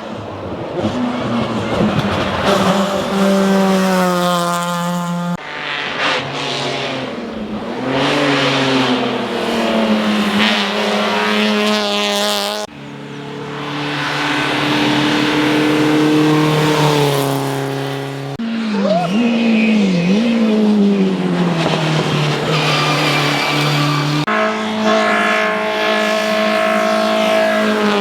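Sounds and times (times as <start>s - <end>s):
race car engines revving: 0.0s - 28.0s.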